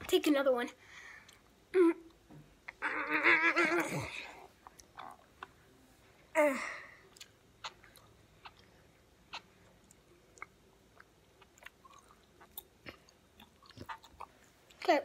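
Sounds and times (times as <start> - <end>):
child chewing food: 1.2 - 5.8, 6.9 - 15.0.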